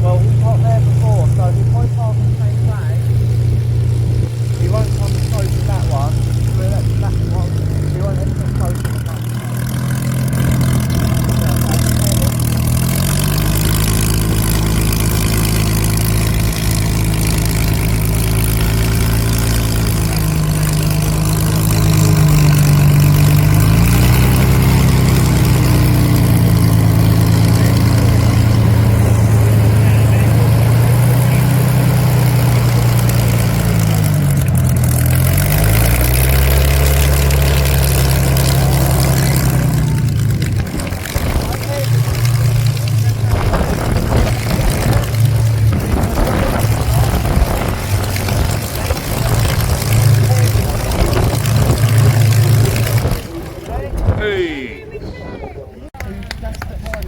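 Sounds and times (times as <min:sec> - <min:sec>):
aircraft piston engine running: 0:00.0 - 0:54.7.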